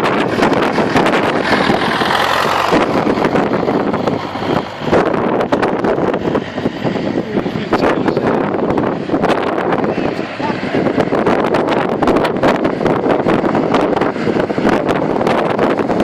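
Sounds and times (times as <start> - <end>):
vehicle rumble: 0.0 - 16.0
wind buffeting microphone: 0.0 - 16.0.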